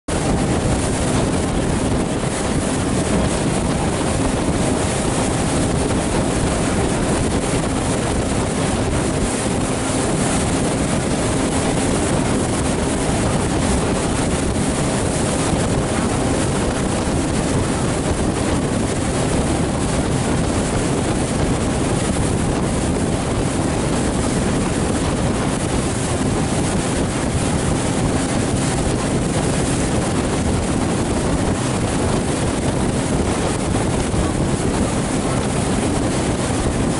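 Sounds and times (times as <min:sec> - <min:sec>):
hull rushing through water: 0:00.0 - 0:36.9
boat engine hum: 0:00.1 - 0:36.9
wind noise on microphone: 0:00.1 - 0:36.9.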